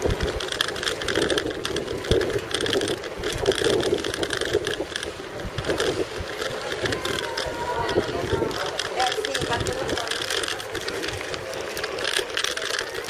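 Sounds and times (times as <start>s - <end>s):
bicycle rattling over stone paving: 0.0s - 13.0s.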